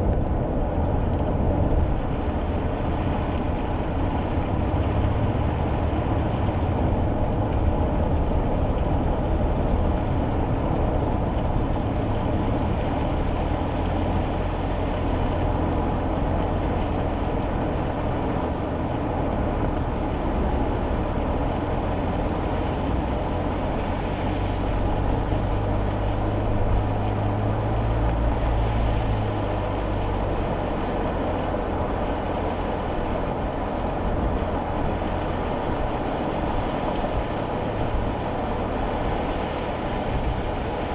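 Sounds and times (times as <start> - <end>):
car engine rumble: 0.0 - 40.9.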